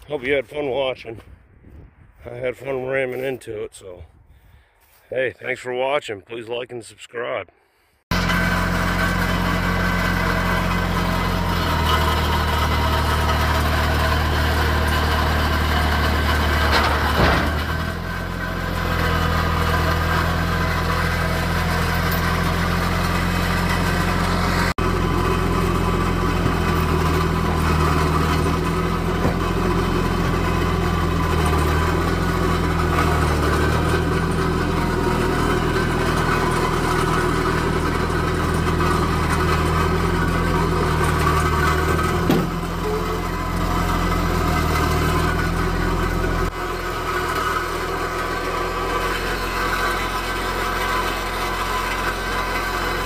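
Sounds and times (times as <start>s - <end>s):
diesel tractor engine idling: 8.1s - 53.0s.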